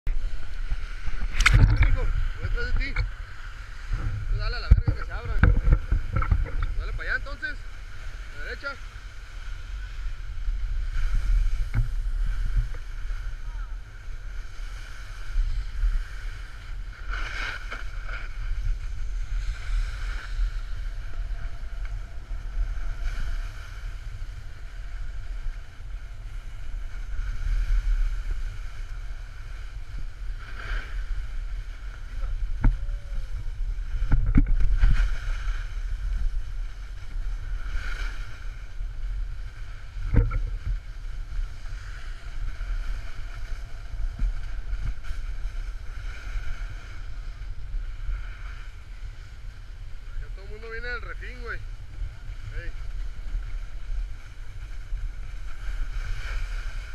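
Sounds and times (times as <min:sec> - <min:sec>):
wind buffeting microphone: 0:00.1 - 0:56.9.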